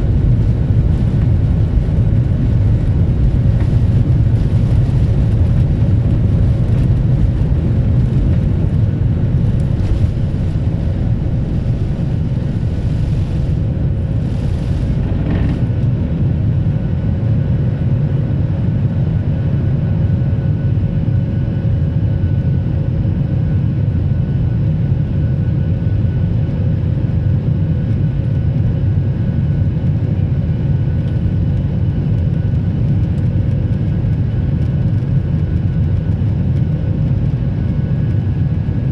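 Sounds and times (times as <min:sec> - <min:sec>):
faint constant whine: 0:00.0 - 0:38.9
jet engine low rumble: 0:00.0 - 0:38.9.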